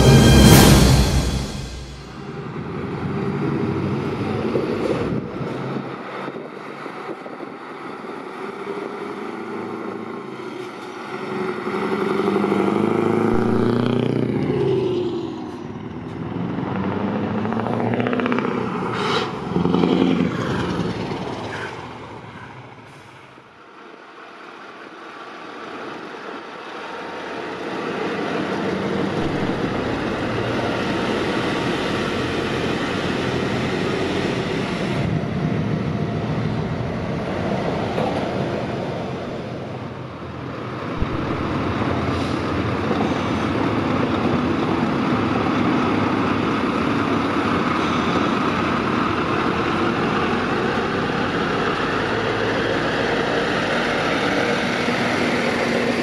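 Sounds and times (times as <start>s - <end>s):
diesel trucks driving past: 0.0s - 56.0s.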